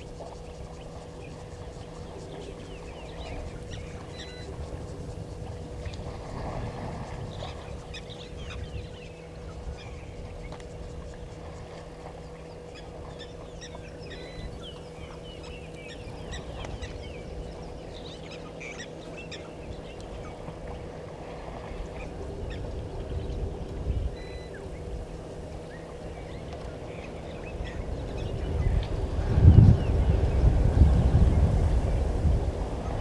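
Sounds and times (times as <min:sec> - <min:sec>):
electrical hum: 0:00.0 - 0:33.0
low uneven rumble: 0:00.0 - 0:33.0.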